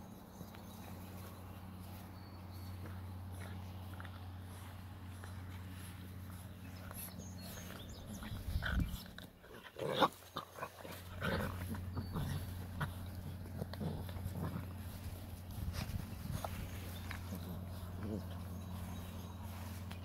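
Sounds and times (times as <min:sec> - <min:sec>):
steady low hum: 0:00.0 - 0:20.0
puppies play-fighting and yelping: 0:00.1 - 0:20.0.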